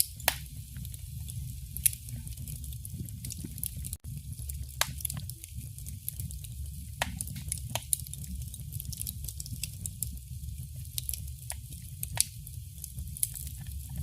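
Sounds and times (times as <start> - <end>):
burning wood crackling and popping: 0.0 - 14.0
fire flames rumbling: 0.0 - 14.0.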